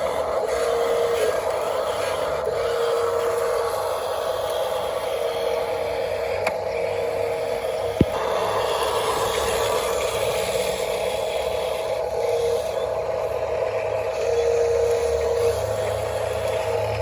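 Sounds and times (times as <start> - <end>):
toy electric motors whining: 0.0 - 17.0.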